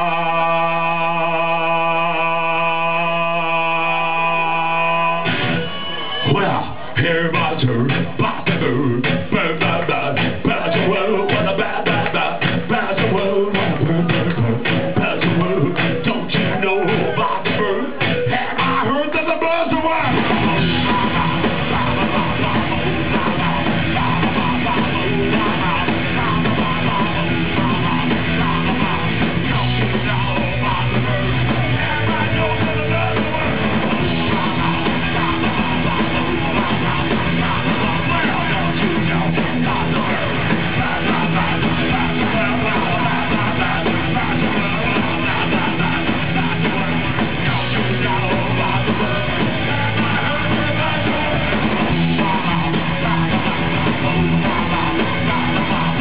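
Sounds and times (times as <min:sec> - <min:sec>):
punk rock band playing live: 0:05.2 - 0:56.0.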